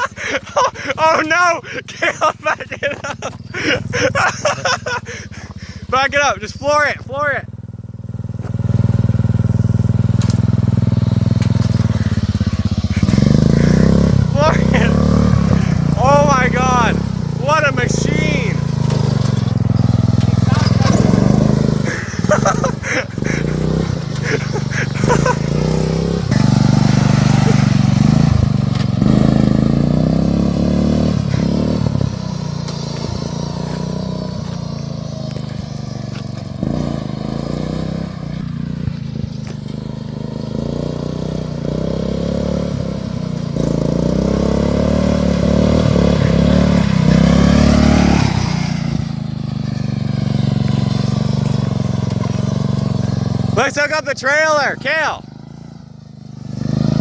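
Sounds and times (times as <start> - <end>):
lawn mower engine revving: 0.0 - 57.0.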